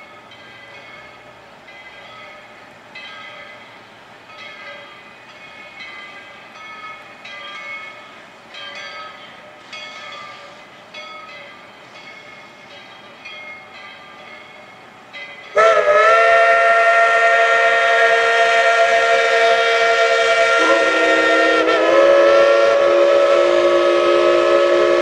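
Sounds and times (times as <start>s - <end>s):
locomotive bell ringing: 0.0s - 25.0s.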